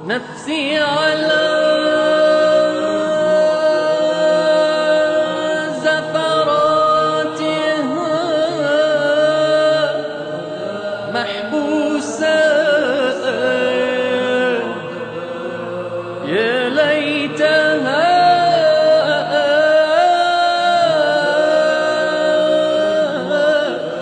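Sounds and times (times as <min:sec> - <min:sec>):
steady held drone: 0:00.0 - 0:24.0
wordless vocal chant: 0:00.0 - 0:24.0.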